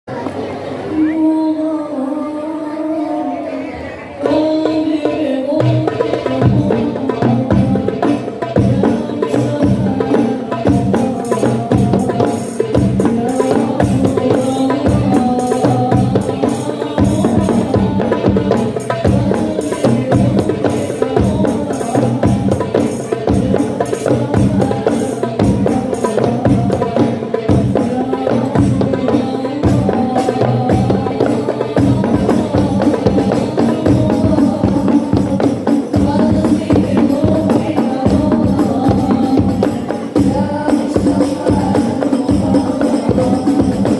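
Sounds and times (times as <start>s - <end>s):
voices singing devotional song: 0.1s - 43.9s
hand drum: 4.2s - 43.9s
tambourine-like percussion: 5.6s - 43.9s.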